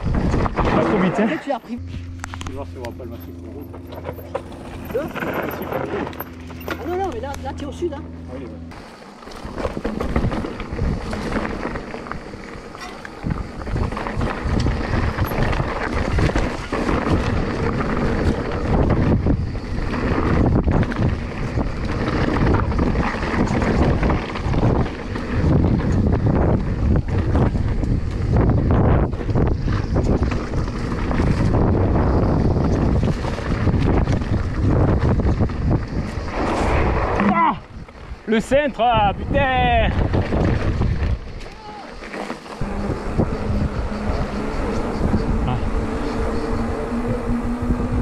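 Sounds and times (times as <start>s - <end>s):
bike tyres clattering over stones: 0.0s - 7.8s, 8.7s - 45.8s
wind rumbling on microphone: 0.0s - 48.0s.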